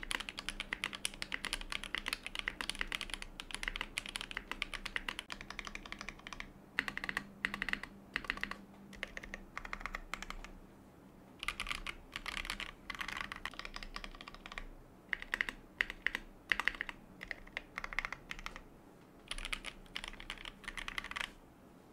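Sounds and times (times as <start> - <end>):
mechanical keyboard typing: 0.0 - 10.6, 11.4 - 18.6, 19.2 - 21.4.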